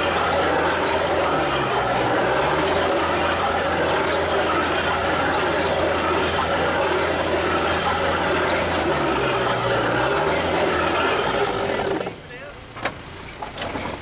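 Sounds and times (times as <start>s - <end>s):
drill stem churning ground: 0.0s - 12.2s
digger engine under load: 0.0s - 14.0s.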